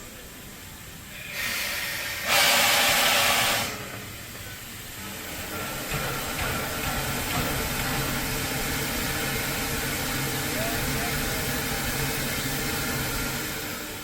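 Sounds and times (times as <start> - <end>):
steam locomotive venting steam: 0.0 - 14.0.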